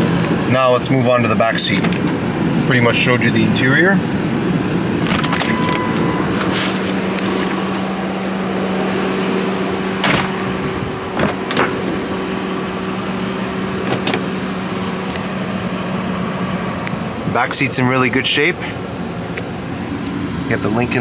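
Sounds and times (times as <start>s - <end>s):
car air-conditioning blower: 0.0s - 17.6s.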